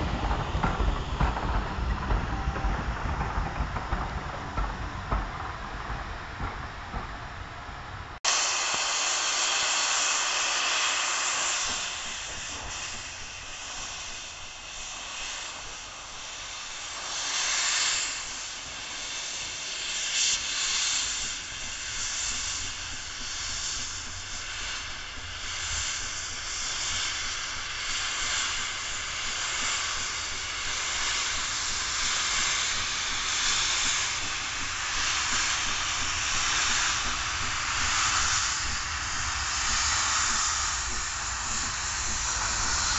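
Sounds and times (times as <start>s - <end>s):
locomotive steam hissing: 0.0s - 42.9s.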